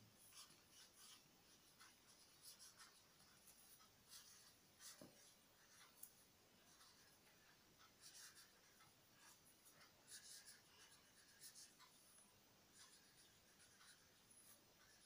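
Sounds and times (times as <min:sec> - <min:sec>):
pen scratching on paper: 0:00.2 - 0:15.0.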